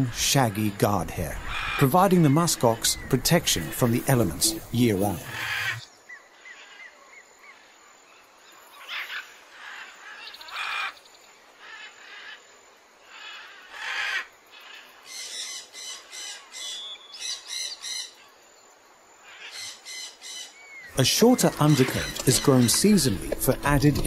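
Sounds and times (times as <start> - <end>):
birds calling: 0.0 - 7.6, 8.5 - 12.4, 13.1 - 18.4, 19.2 - 24.0.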